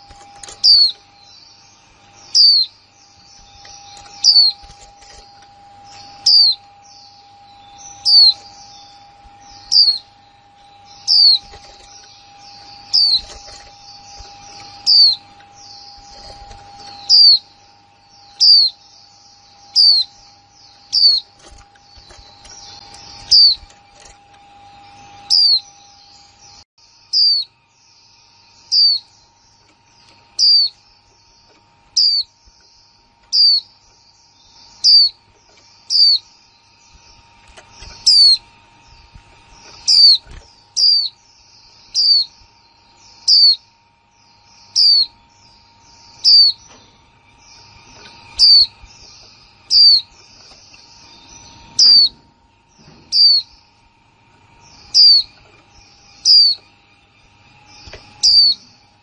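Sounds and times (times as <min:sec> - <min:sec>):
bird chirp high falling: 0:00.0 - 0:59.0
faint high twittering: 0:00.0 - 0:59.0.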